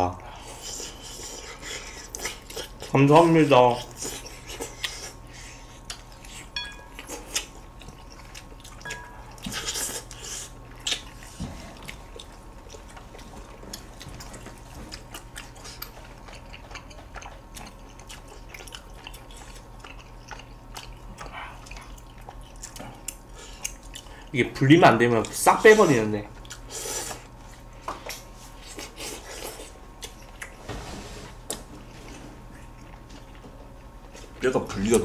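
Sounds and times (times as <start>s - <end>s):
quiet chewing: 0.2s - 3.0s, 3.7s - 24.4s, 25.2s - 30.6s, 31.4s - 34.5s.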